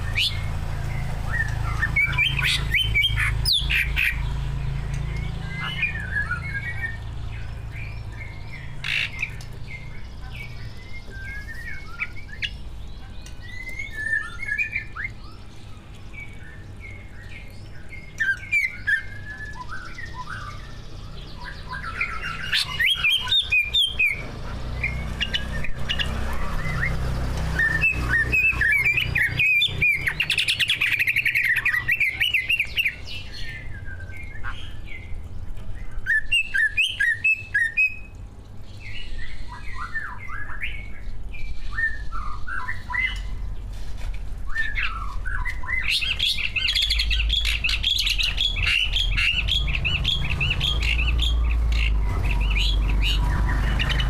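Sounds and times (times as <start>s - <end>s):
songbird singing varied song: 0.0s - 43.7s, 44.4s - 54.0s.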